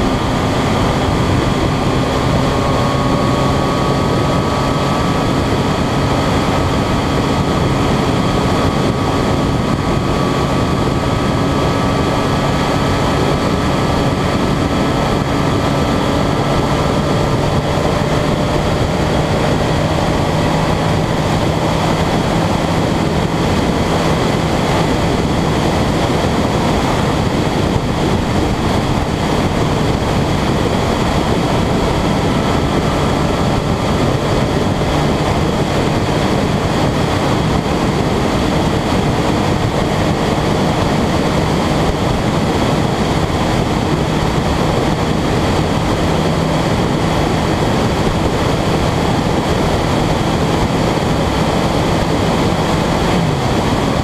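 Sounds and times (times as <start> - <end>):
low engine hum: 0.0 - 54.0
wind and road noise: 0.0 - 54.0.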